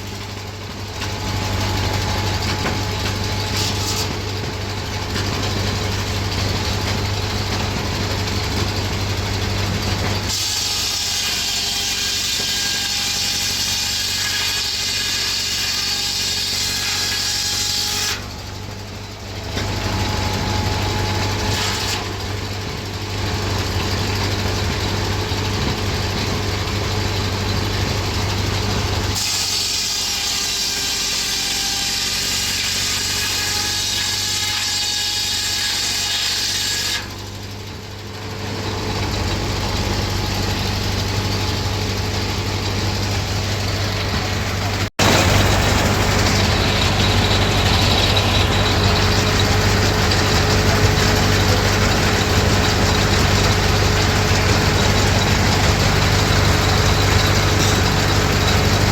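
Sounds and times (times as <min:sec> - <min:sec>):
engine running steadily: 0:00.0 - 0:14.0, 0:18.0 - 0:29.3, 0:37.0 - 0:58.9
circular saw blade cutting logs: 0:00.0 - 0:58.9.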